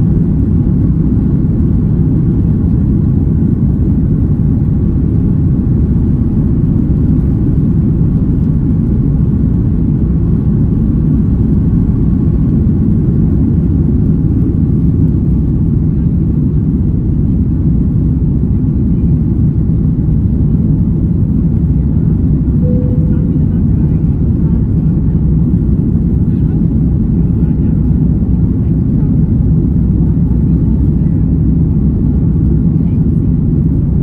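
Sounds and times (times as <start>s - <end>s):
jet engines rumbling in cabin: 0.0s - 34.0s.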